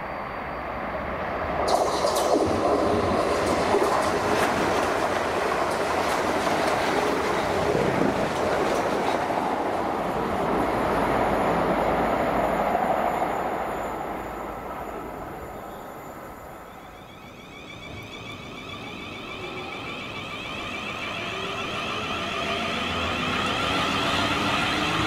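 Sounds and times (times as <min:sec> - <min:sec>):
train wheel and rail noise: 0:00.0 - 0:25.0.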